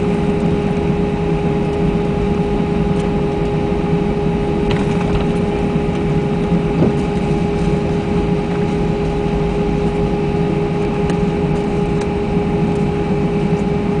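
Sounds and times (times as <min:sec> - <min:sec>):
aircraft engine and airflow noise: 0:00.0 - 0:14.0
constant droning hum: 0:00.0 - 0:14.0.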